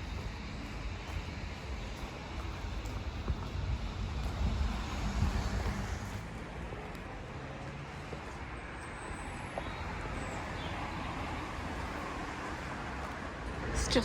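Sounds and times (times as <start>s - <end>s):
outdoor street ambience: 0.0s - 14.0s.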